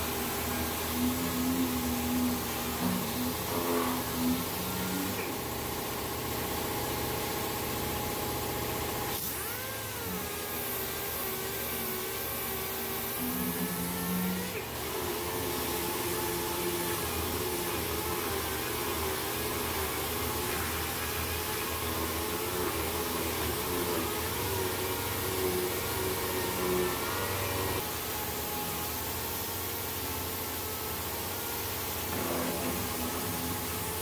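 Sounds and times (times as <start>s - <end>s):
air sander whining: 0.0s - 34.0s.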